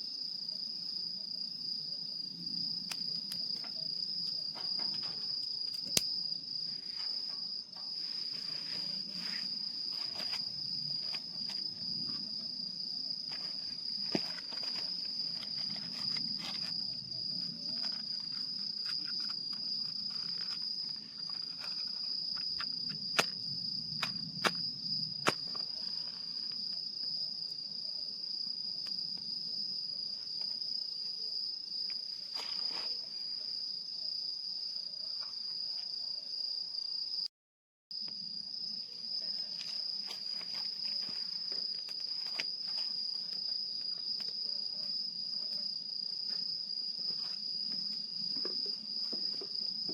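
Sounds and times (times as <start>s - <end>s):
crickets chirring: 0.0s - 37.3s, 37.9s - 49.9s.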